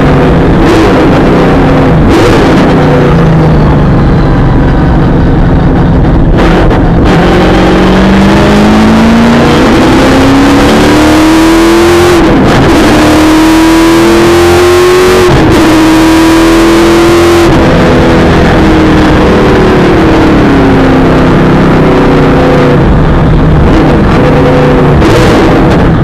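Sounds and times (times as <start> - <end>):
engine accelerating hard: 0.0 - 26.0.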